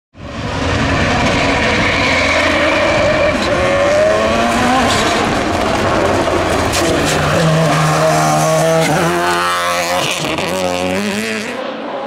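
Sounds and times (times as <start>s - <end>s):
race car engine running hard: 0.2s - 12.0s.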